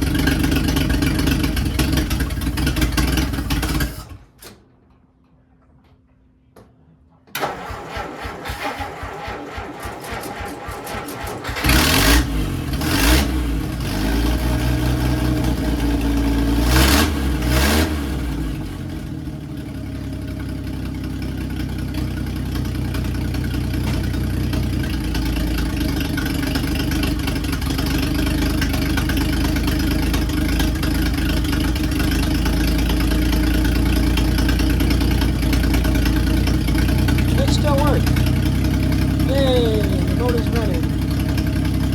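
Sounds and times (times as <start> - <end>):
car engine starting and idling: 0.0 - 4.7, 7.3 - 41.9.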